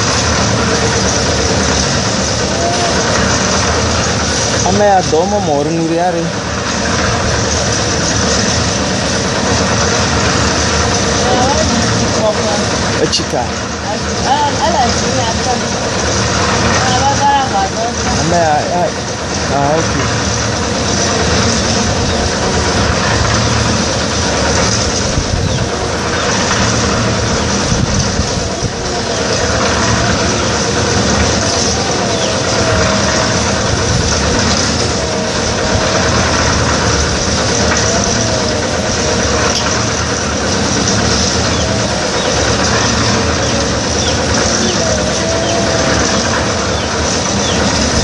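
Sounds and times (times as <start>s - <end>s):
concrete mixer engine running: 0.0s - 48.0s
faint wavering whine: 0.0s - 48.0s.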